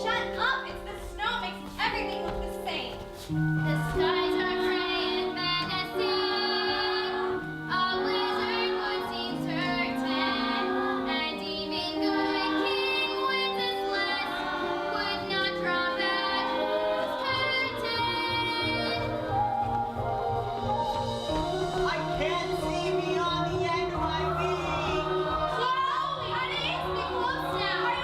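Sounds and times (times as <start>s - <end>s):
musical backing: 0.0s - 28.0s.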